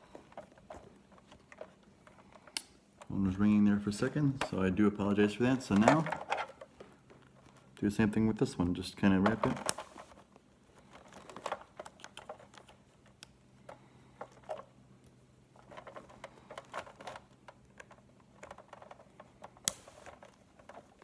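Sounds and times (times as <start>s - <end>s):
faint steady hum: 0.0s - 21.0s
hands handling plastic toy: 0.0s - 21.0s.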